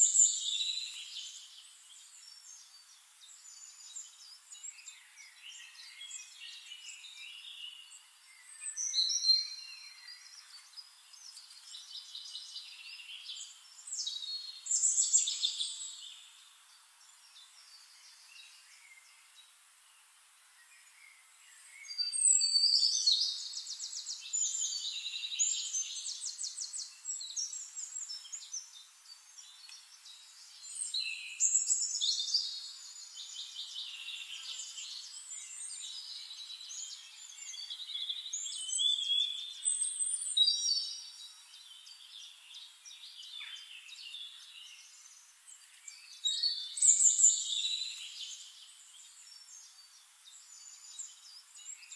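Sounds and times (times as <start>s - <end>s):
birds chirping and trilling: 0.0s - 51.9s.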